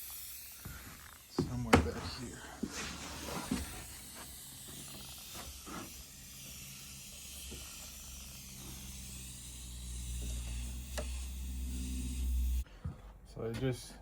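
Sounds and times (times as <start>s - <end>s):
compressed air hissing from leak: 0.0s - 12.7s.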